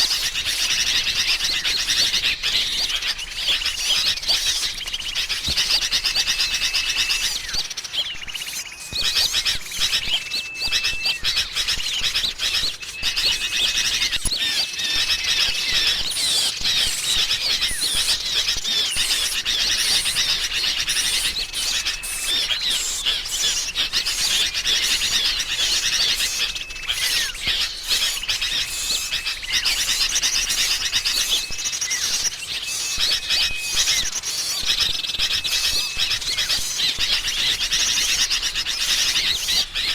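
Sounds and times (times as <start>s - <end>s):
birds chattering and chirping: 0.0s - 39.9s.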